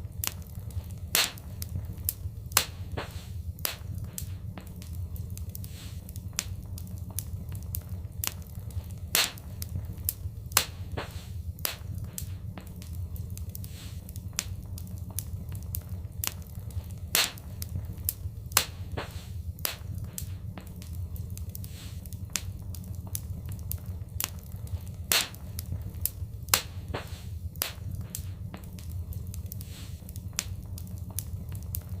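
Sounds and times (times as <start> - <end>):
fireplace fire crackling: 0.0 - 32.0
low rumble of flames: 0.0 - 32.0.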